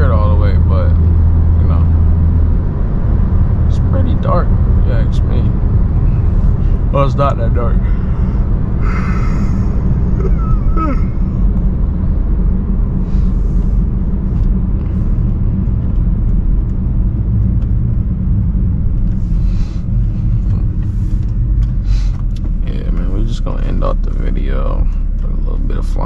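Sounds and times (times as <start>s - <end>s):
car exhaust low rumble: 0.0s - 26.0s.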